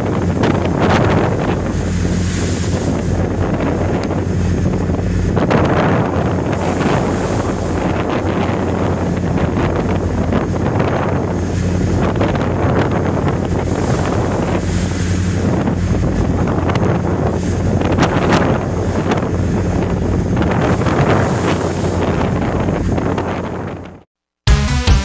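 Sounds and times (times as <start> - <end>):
ship engine drone: 0.0 - 24.0
waves washing against hull: 0.0 - 24.1
wind buffeting microphone: 0.0 - 24.1.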